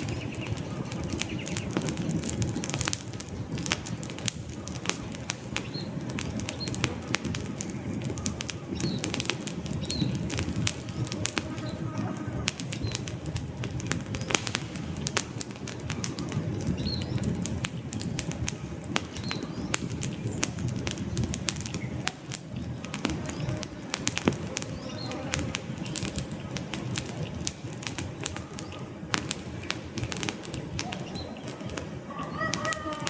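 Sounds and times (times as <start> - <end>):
logs popping and snapping: 0.0 - 33.0
low rumble of flames: 0.0 - 33.0
wood fire crackling: 0.0 - 33.0.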